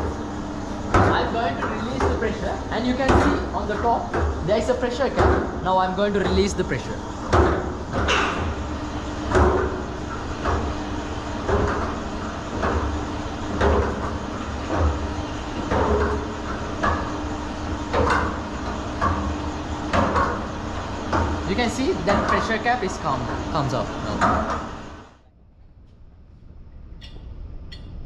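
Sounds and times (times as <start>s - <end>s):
machine clunking: 0.0s - 25.1s
motor hum: 0.0s - 28.0s.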